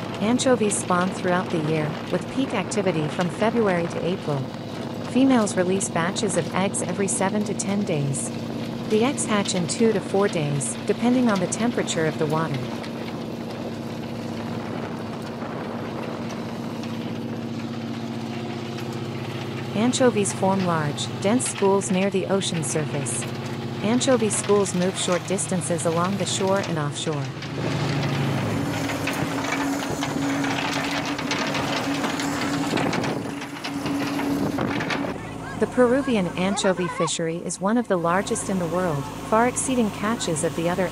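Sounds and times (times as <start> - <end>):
water churning along hull: 0.0 - 37.0
boat engine droning: 0.0 - 40.9
constant rushing noise: 0.0 - 40.9.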